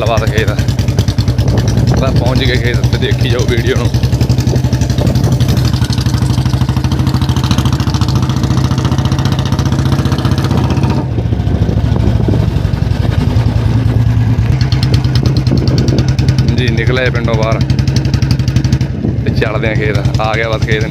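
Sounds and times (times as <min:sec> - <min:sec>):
motorcycle engine thumping: 0:00.0 - 0:20.9.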